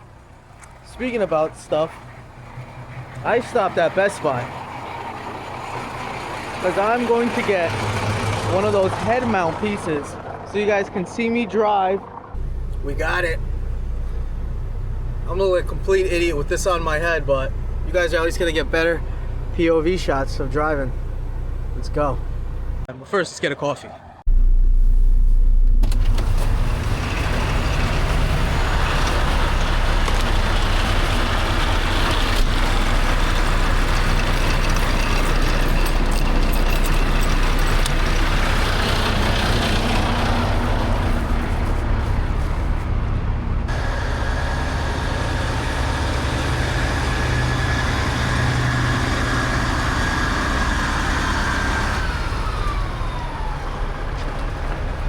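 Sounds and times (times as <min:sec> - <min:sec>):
truck engine and road rumble: 0:00.0 - 0:55.0.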